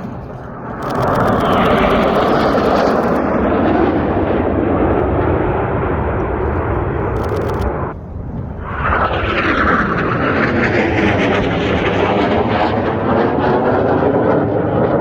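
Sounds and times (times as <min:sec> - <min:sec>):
jet aircraft fly-past: 0:00.0 - 0:15.0.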